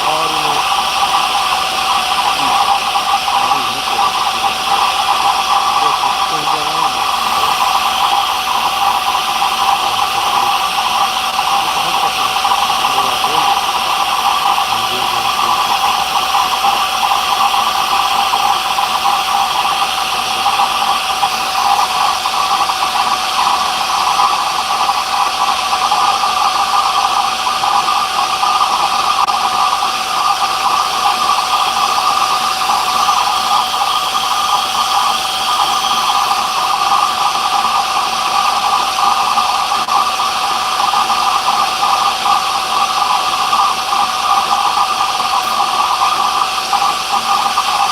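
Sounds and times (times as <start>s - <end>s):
woodworking machine whining: 0.0s - 47.9s.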